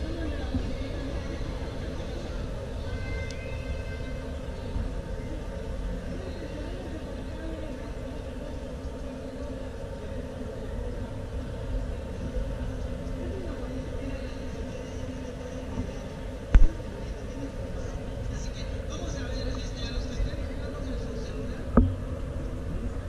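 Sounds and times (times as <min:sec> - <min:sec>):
faint voices: 0:00.0 - 0:23.0.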